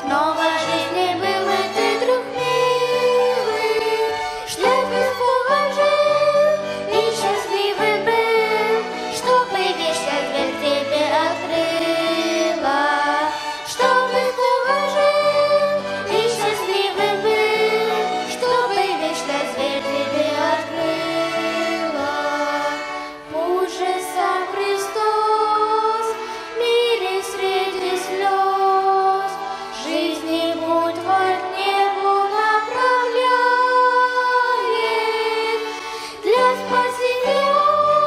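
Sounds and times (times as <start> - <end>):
group of singers: 0.0 - 38.0
violin ensemble: 0.0 - 38.0.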